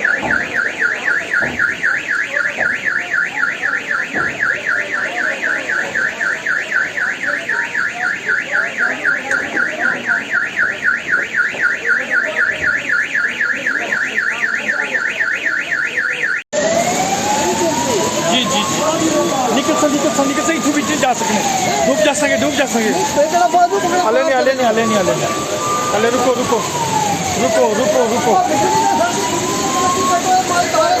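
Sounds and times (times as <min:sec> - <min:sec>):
electronic alarm warbling: 0:00.0 - 0:31.0.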